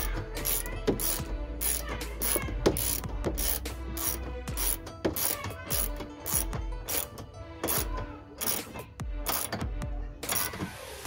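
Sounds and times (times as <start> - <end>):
ratchet wrench clicking: 0.0 - 9.6, 10.2 - 10.6.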